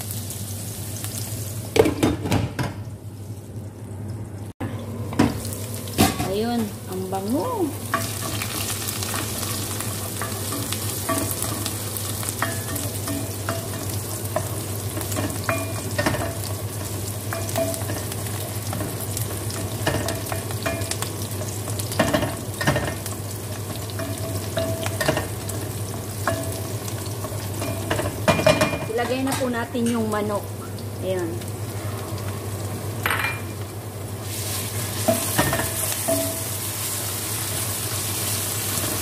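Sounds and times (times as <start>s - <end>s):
garlic and onions sizzling in oil: 0.0s - 3.7s, 4.4s - 39.0s.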